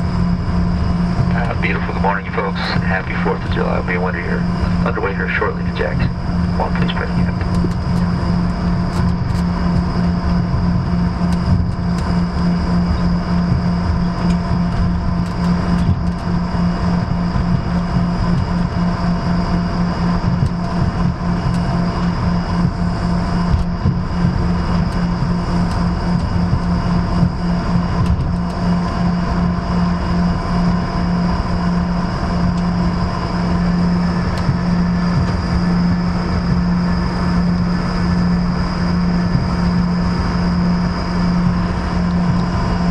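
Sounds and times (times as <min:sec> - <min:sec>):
higher engine whines: 0:00.0 - 0:42.9
jet engine hum in cabin: 0:00.0 - 0:42.9.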